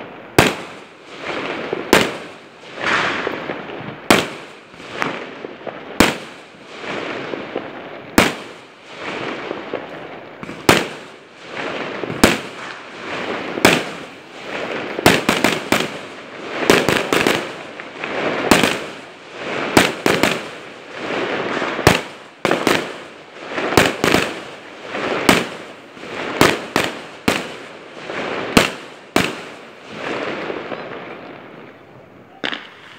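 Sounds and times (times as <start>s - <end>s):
fireworks bangs: 0.0s - 32.9s
hissing crackle of fireworks: 0.0s - 32.9s.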